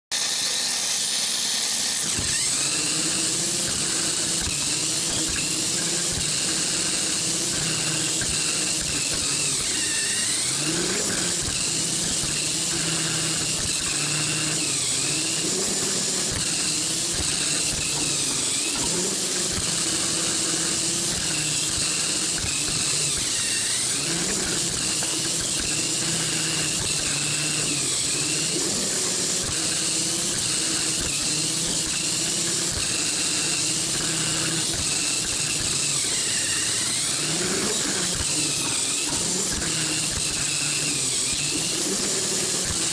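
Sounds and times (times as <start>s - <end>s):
toy car motor whining: 0.1s - 42.9s.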